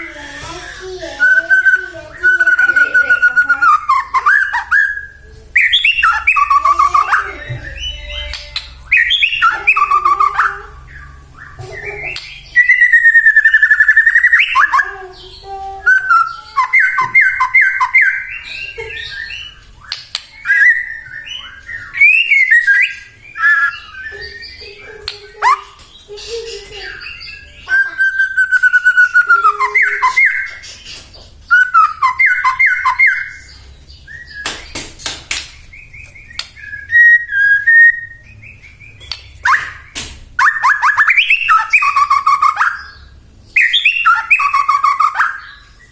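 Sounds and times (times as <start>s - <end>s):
songbird singing whistles: 1.2s - 14.9s, 15.8s - 25.9s, 26.7s - 34.8s, 35.6s - 45.9s.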